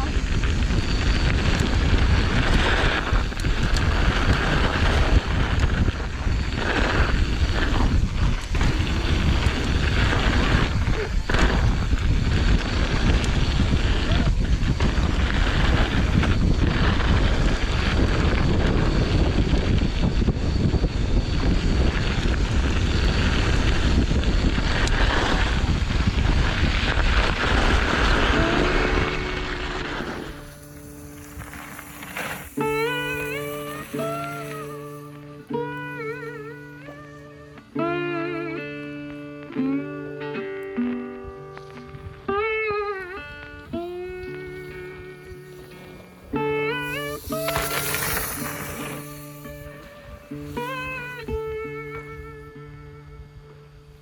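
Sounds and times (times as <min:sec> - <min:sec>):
wind buffeting camera microphone: 0:00.0 - 0:37.2, 0:40.9 - 0:54.0.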